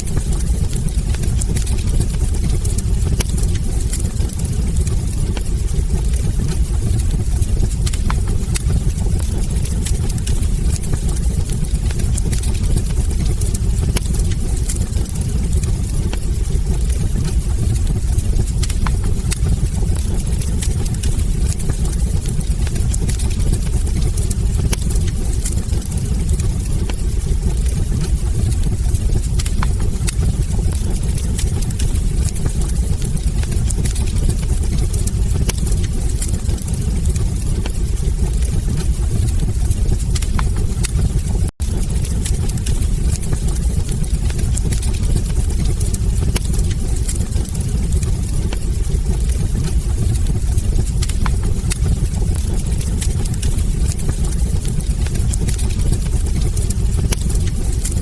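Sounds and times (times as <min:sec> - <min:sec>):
low rumble of flames: 0:00.0 - 0:58.0
wood fire popping: 0:00.0 - 0:58.0.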